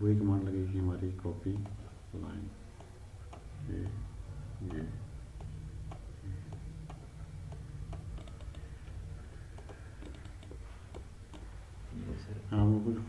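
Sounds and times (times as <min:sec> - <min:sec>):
steady low hum: 0:00.0 - 0:13.0
faint regular ticking: 0:01.1 - 0:12.0.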